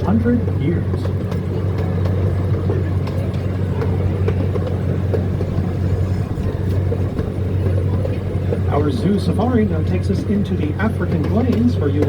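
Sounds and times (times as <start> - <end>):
train engine hum: 0.0 - 12.0.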